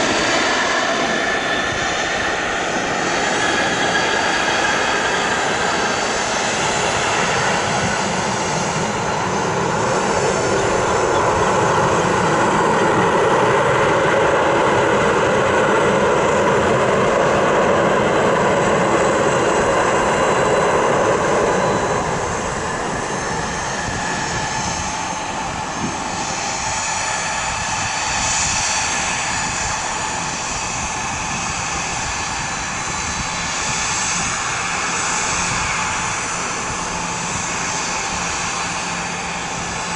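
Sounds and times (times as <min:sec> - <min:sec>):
jet engines idling: 0:00.0 - 0:39.9
jet engines in reverse thrust: 0:00.0 - 0:39.9.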